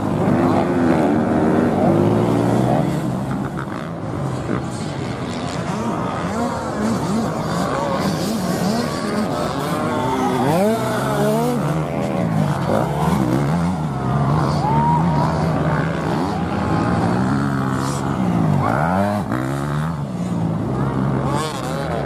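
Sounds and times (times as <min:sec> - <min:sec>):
motocross engines revving: 0:00.0 - 0:22.0.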